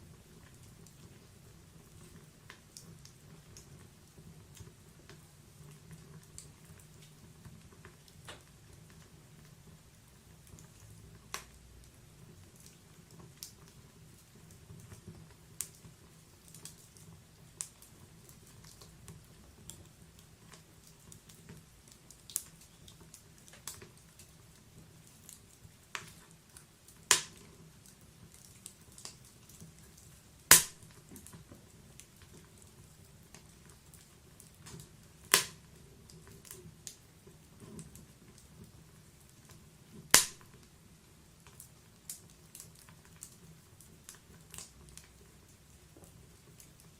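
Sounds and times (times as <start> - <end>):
faint low hiss: 0.0 - 46.9
wood fire crackling: 0.0 - 46.9.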